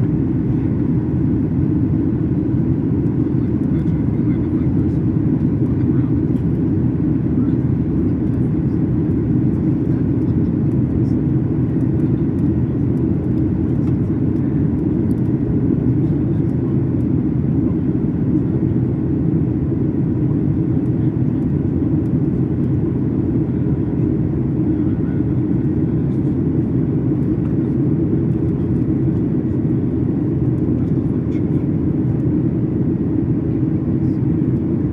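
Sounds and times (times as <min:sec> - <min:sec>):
jet engine drone in cabin: 0:00.0 - 0:34.9.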